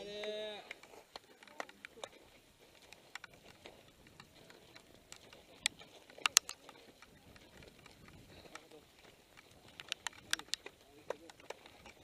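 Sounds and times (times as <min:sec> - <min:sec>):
bikes clicking and rattling: 0:00.0 - 0:12.0
footsteps on gravel: 0:00.0 - 0:12.0.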